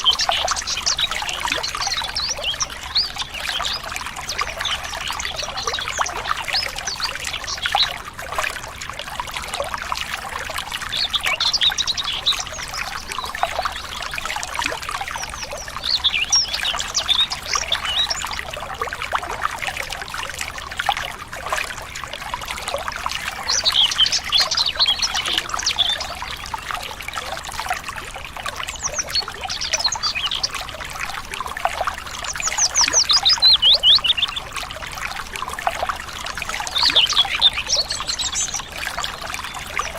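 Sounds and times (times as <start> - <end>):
songbirds singing: 0.0 - 8.7, 10.0 - 39.9
water trickling and splashing: 0.0 - 39.9.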